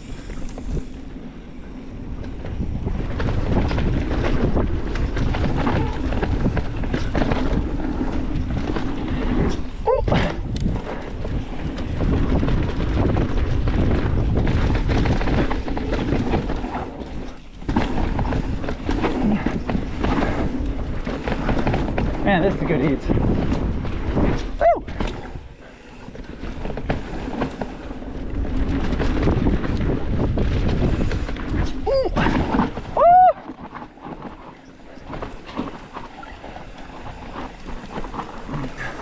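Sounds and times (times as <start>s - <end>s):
bike rattling over bumps: 0.0s - 39.0s
tyres on dirt: 0.0s - 39.0s
wind on microphone: 0.0s - 39.0s.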